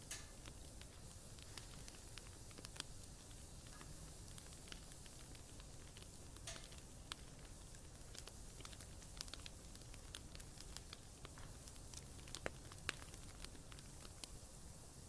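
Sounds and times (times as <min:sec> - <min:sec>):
campfire pops and crackles: 0:00.0 - 0:15.0
low fire rumble: 0:00.0 - 0:15.0.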